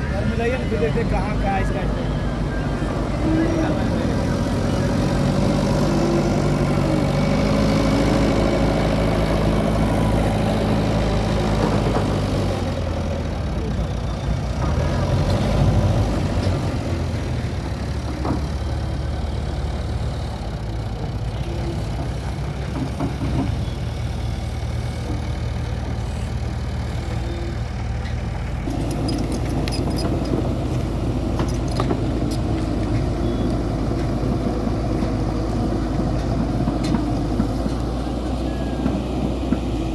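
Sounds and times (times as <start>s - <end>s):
diesel engine of earthmover working: 0.0s - 39.9s.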